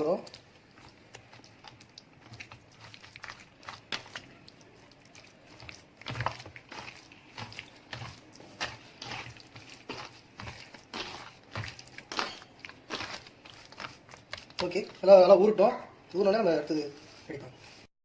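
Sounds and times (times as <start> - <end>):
squelching of mixed marinade: 0.0 - 17.9.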